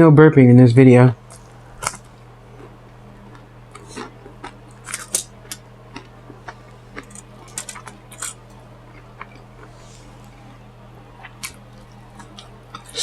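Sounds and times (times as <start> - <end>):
chewing and mouth smacking: 1.3 - 13.0.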